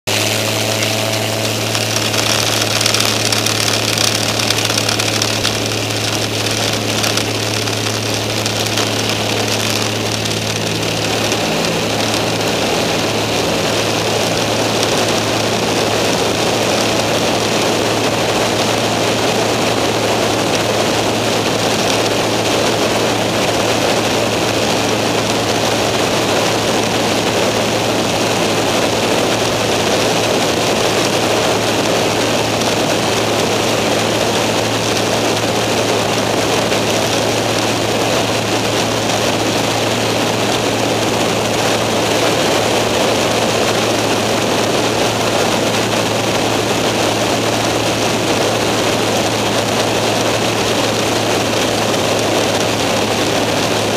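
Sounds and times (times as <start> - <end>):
aircraft engine and propeller drone: 0.0 - 53.9
wind rushing over microphone: 0.1 - 53.9.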